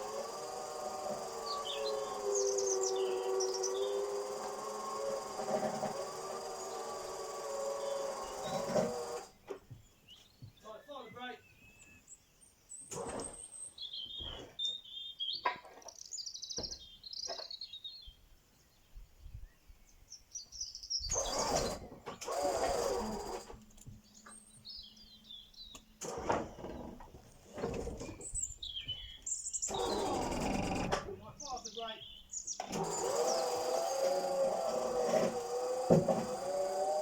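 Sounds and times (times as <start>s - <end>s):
small birds chirping: 0.0s - 5.2s, 6.4s - 22.2s, 23.2s - 27.0s, 27.6s - 34.8s.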